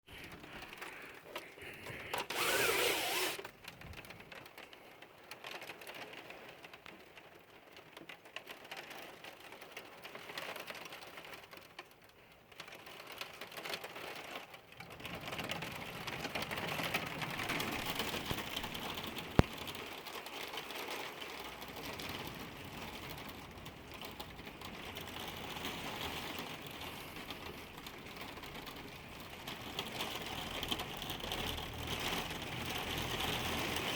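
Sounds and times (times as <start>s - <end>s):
heavy rain pattering: 0.0s - 2.3s, 3.4s - 33.9s.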